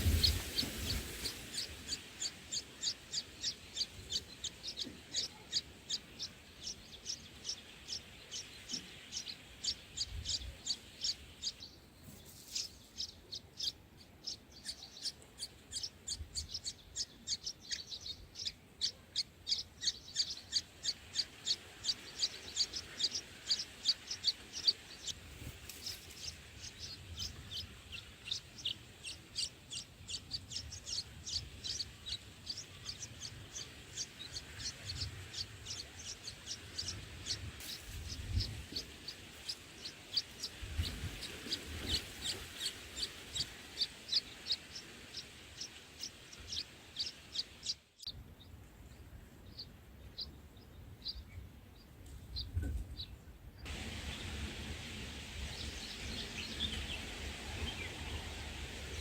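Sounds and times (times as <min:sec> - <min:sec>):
small bird chirping: 0:00.0 - 0:54.4, 0:55.4 - 0:59.0.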